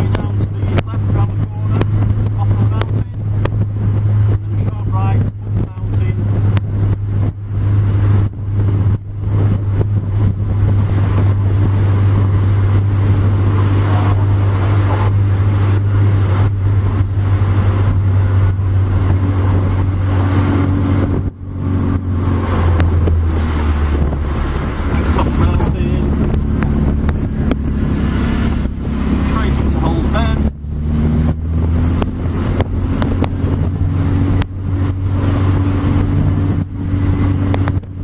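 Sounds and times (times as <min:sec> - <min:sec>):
race car engine running hard: 0:00.0 - 0:38.0.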